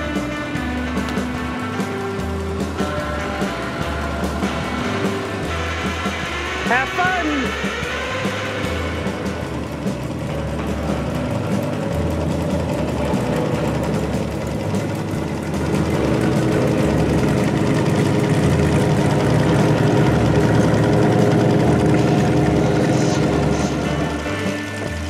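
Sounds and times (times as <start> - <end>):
airboat engine and propeller: 0.0 - 25.0.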